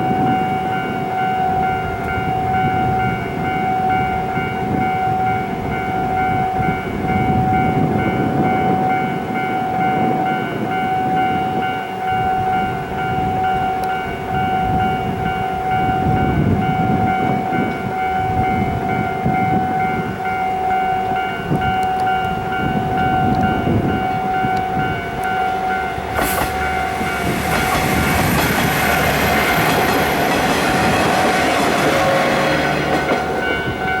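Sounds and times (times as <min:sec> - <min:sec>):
level-crossing warning bell: 0:00.0 - 0:34.0
train wheel and engine rumble: 0:00.0 - 0:34.0.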